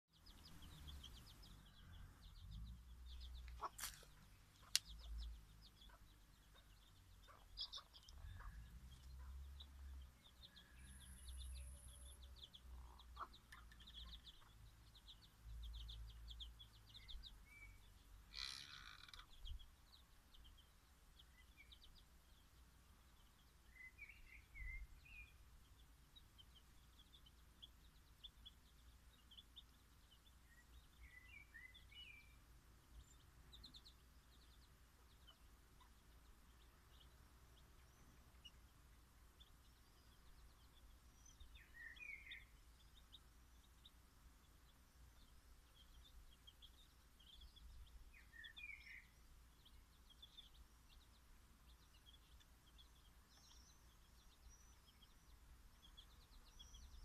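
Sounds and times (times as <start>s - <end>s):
small birds chirping: 0.1s - 57.0s.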